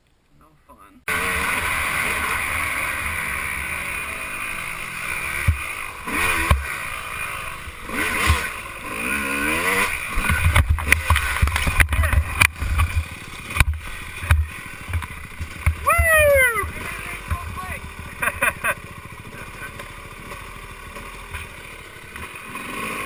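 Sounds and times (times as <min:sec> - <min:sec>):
dirt bike engine revving: 0:01.1 - 0:23.0
steady rushing noise: 0:01.1 - 0:23.0.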